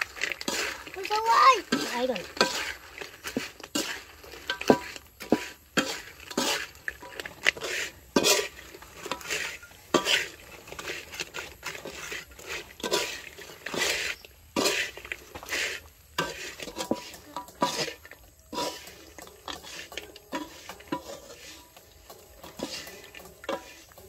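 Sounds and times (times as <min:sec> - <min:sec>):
metal spatula scraping a wok: 0:00.0 - 0:24.0.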